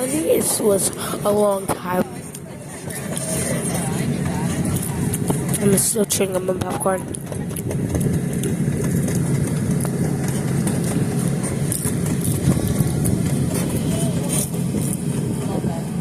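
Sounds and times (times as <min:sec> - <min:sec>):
vehicle rumbling in motion: 0:00.0 - 0:16.0.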